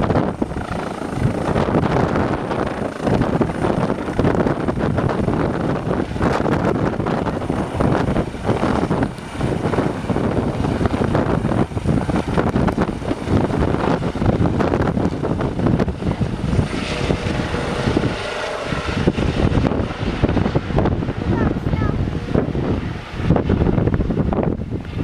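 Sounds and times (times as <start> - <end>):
helicopter rotor and turbine: 0.0 - 25.0.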